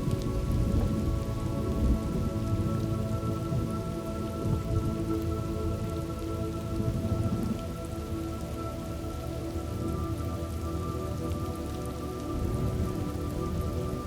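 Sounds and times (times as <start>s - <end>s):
heavy rain: 0.0s - 14.0s
soft drone of held tones: 0.0s - 14.0s.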